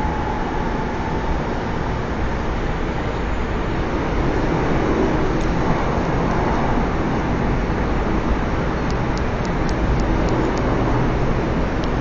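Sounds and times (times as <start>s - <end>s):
train rumbling in motion: 0.0s - 12.0s.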